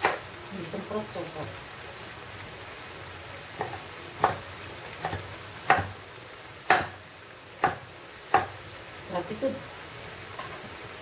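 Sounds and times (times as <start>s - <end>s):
food simmering in a frying pan: 0.0s - 11.0s.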